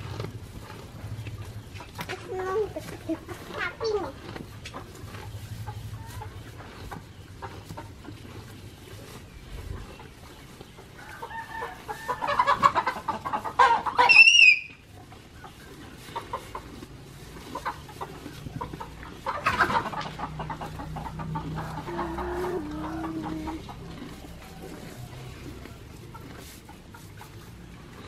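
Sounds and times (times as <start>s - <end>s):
chickens clucking and calling: 0.0s - 28.0s
cow chewing grass: 0.0s - 28.0s.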